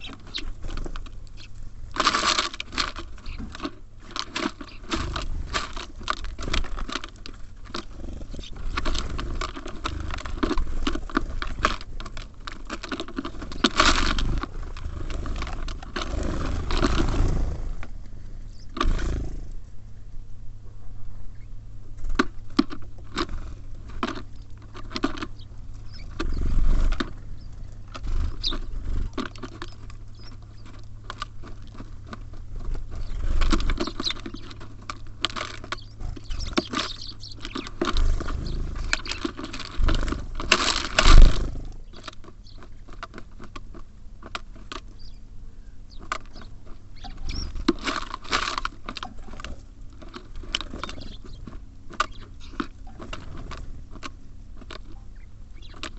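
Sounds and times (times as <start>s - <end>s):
birds pecking and tapping: 0.0s - 19.8s, 20.7s - 55.9s.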